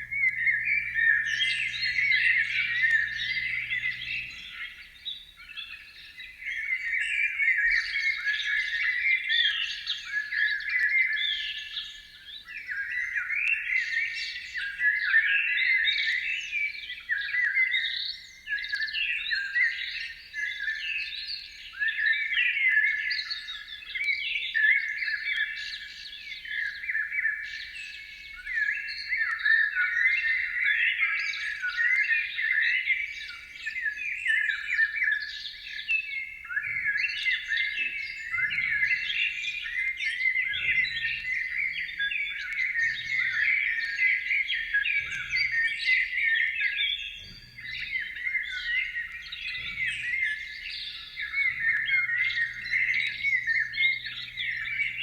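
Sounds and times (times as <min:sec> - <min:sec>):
birdsong chirps and trills: 0:00.0 - 0:55.0.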